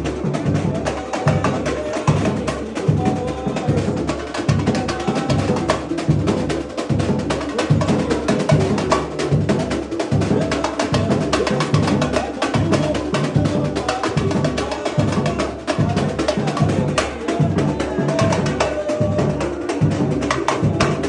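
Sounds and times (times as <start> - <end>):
samba percussion: 0.0 - 21.0.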